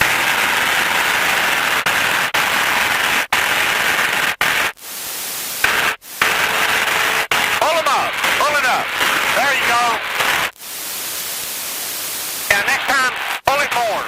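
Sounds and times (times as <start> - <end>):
cockpit noise hiss: 0.0 - 14.0.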